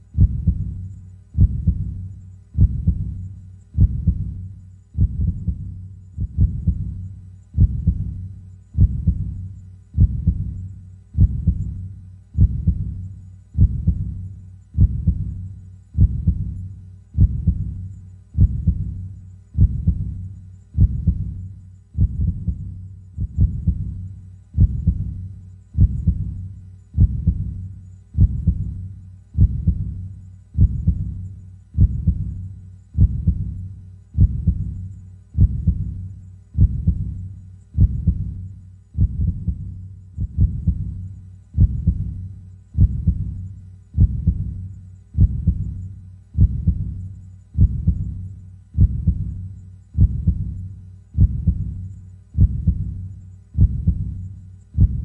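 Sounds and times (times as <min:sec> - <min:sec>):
slow heartbeat thumps: 0:00.1 - 0:55.0.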